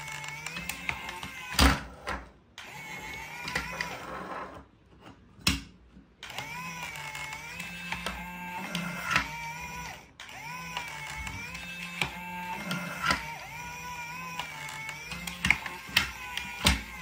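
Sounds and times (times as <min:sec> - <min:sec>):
toy gear motors whirring: 0:00.0 - 0:02.0, 0:02.6 - 0:04.3, 0:06.2 - 0:17.0.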